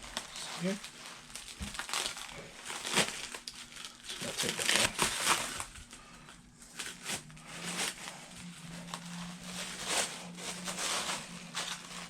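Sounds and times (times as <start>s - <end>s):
faint low hum: 0.0s - 12.0s
plastic packaging rustling: 0.0s - 12.0s.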